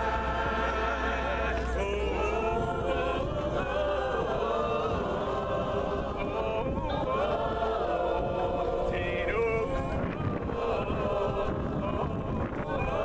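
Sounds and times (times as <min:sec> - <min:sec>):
congregation singing a cappella: 0:00.0 - 0:13.0
steady low hum: 0:00.0 - 0:13.0.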